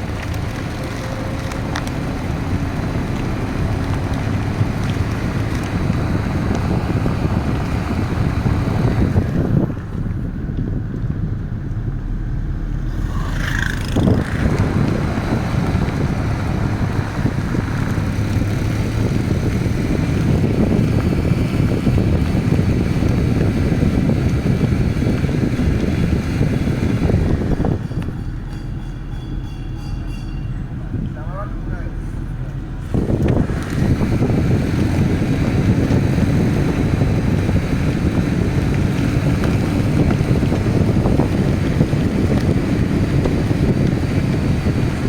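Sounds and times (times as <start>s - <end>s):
car engine rumble: 0.0s - 45.0s
wind noise on microphone: 0.0s - 45.0s.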